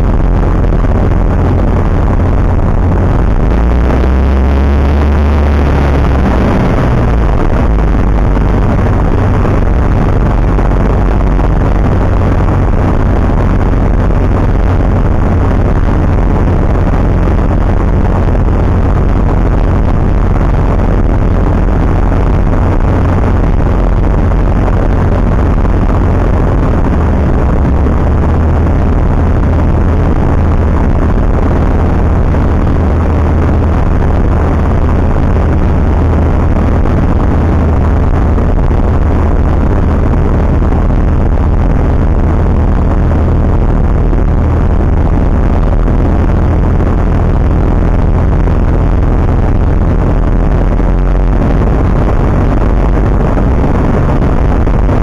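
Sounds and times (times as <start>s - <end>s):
aircraft engine droning: 0.0s - 49.1s.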